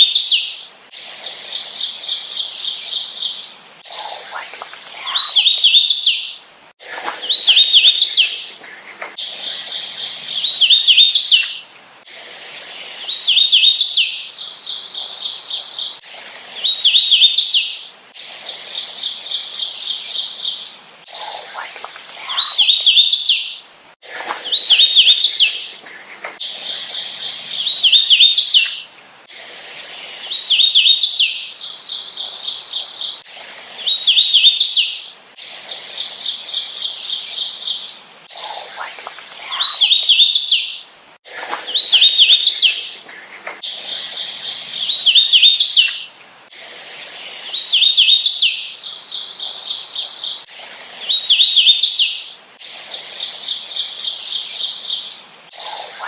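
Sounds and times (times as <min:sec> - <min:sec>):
warbler singing: 0:00.0 - 0:11.7, 0:12.7 - 0:29.0, 0:29.8 - 0:33.2, 0:35.9 - 0:46.2, 0:47.2 - 0:52.4.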